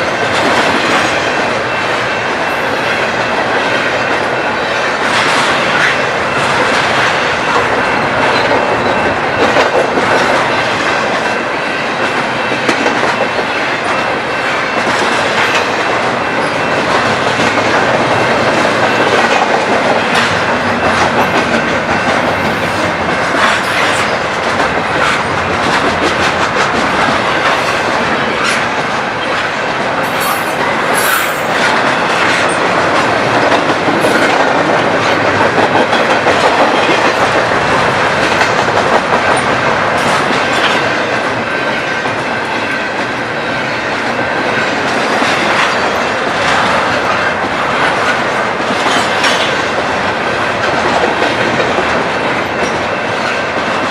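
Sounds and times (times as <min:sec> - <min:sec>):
freight train wheels clattering: 0:00.0 - 0:53.9.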